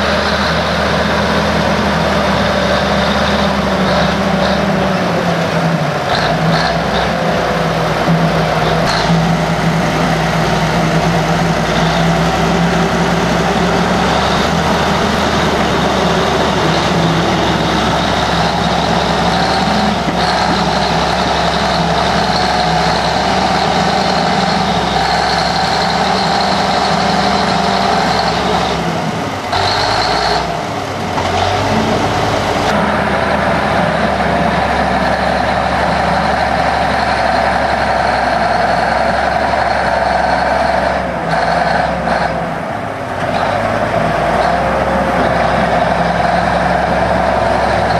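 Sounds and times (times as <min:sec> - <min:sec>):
heavy engine running: 0:00.0 - 0:47.9.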